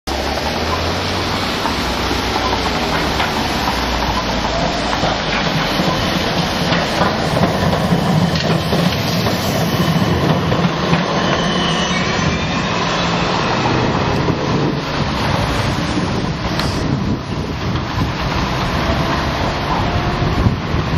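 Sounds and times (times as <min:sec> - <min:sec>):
wheels clicking over rails: 0:00.1 - 0:12.0, 0:13.0 - 0:20.9
tram wheels rumbling: 0:00.1 - 0:20.9.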